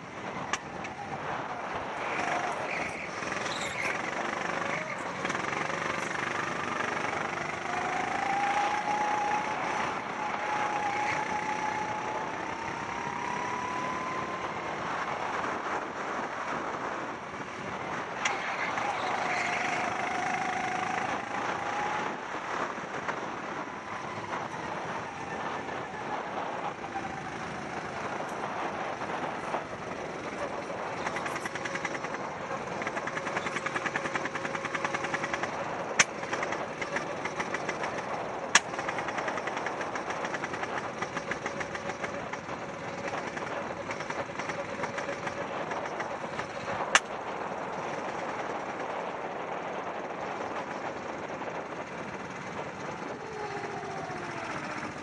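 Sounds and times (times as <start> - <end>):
constant rush of noise: 0.0 - 55.0
racing kart engine: 0.0 - 55.0.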